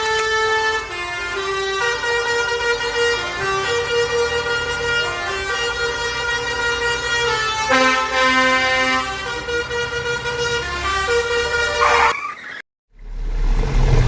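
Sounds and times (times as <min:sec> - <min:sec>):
vehicle horn: 0:00.0 - 0:12.3.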